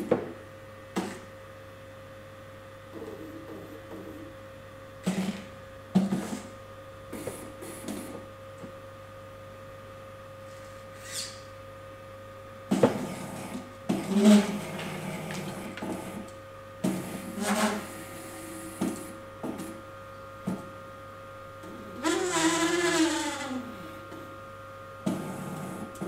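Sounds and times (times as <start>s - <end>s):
steady motor hum: 0.0s - 26.0s.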